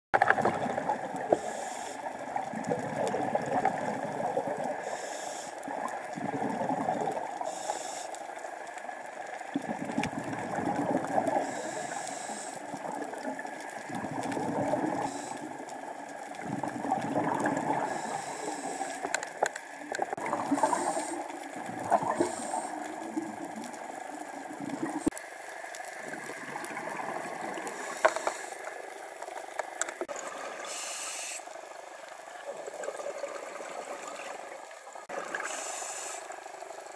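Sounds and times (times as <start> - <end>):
underwater bubbles gurgling: 0.2 - 36.9.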